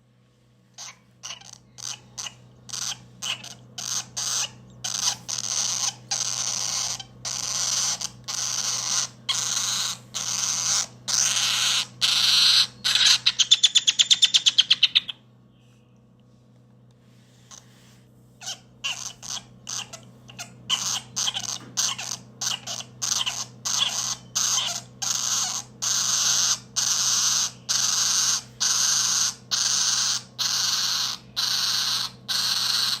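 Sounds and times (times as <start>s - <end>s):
cockatoo chick begging calls: 0.8s - 15.2s, 18.4s - 33.0s.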